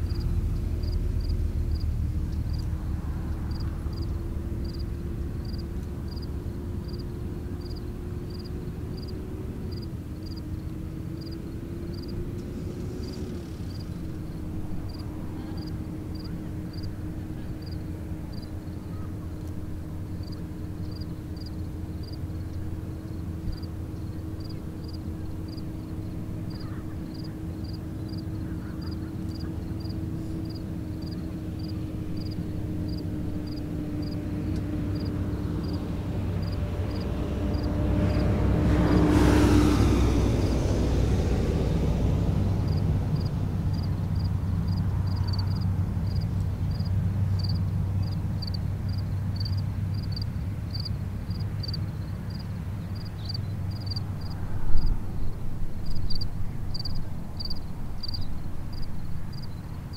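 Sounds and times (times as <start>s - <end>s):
droning hum: 0.0s - 59.9s
jet engines rumbling: 0.0s - 59.9s.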